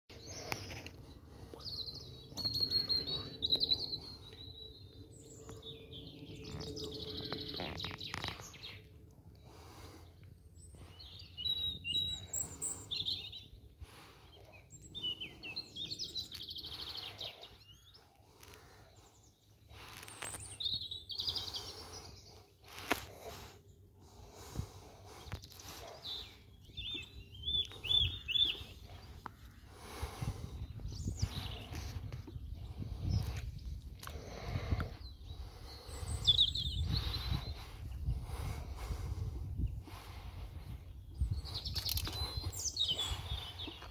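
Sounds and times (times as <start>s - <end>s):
birds singing: 0.1s - 43.9s.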